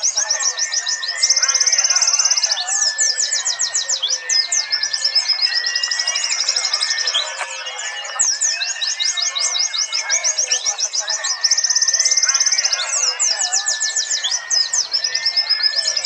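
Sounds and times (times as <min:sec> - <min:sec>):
bird trill: 0:00.0 - 0:16.0
birds chirping in chorus: 0:00.0 - 0:16.0.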